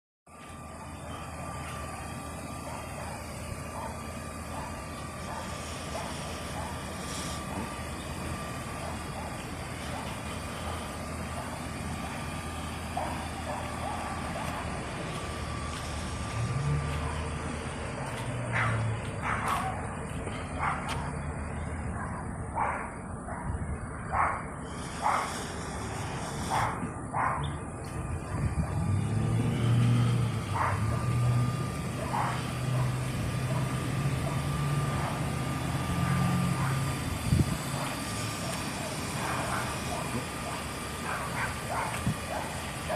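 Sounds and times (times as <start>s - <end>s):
engine idling: 0.3s - 42.9s.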